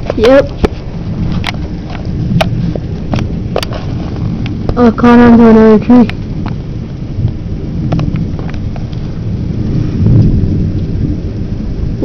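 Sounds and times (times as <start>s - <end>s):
pouring rain: 0.0s - 12.0s
sharp raindrop ticks: 0.0s - 12.0s
thunder rumbling: 0.0s - 12.0s.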